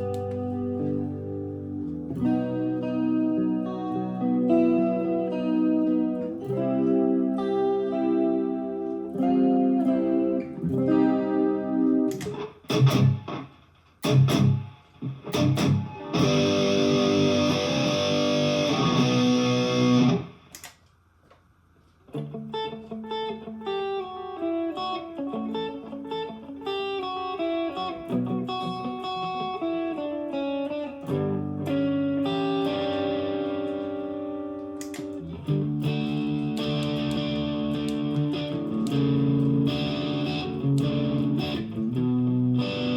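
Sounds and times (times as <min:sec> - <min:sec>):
electric guitar chords and notes: 0:00.0 - 0:20.8, 0:22.1 - 0:42.9.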